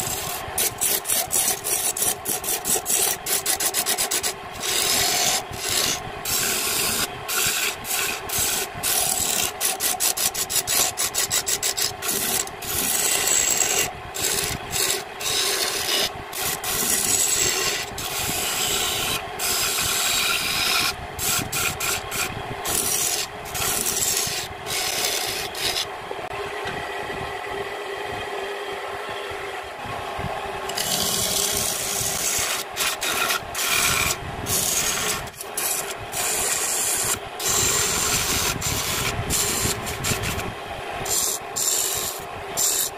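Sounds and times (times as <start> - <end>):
chisel scraping turning wood: 0.0 - 25.9, 30.7 - 42.9
lathe humming: 0.0 - 26.8, 29.4 - 42.9.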